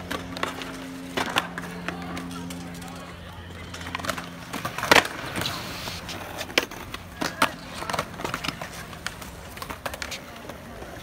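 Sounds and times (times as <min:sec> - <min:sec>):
wheels rolling: 0:00.0 - 0:11.0.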